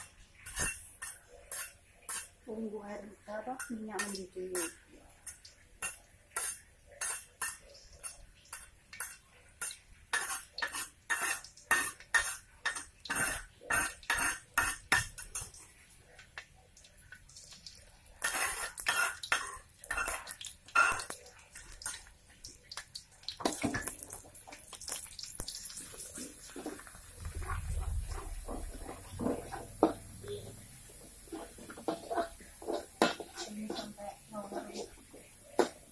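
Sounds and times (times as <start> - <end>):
utensil clattering in a wok: 0.0 - 2.5, 3.4 - 15.6, 18.2 - 22.1, 25.4 - 35.9.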